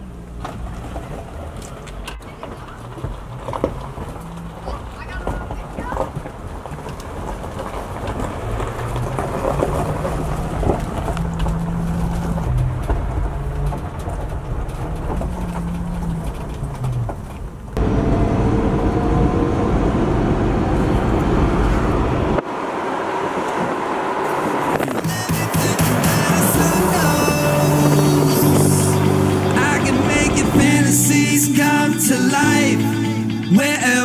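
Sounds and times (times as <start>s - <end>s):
rush of road and wind noise: 0.0s - 30.7s
road noise: 0.0s - 34.0s.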